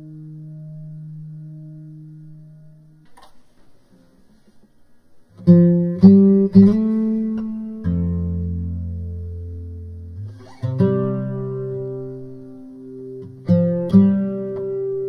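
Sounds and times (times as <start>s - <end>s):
guitar chords: 0.0s - 4.3s, 5.2s - 15.0s.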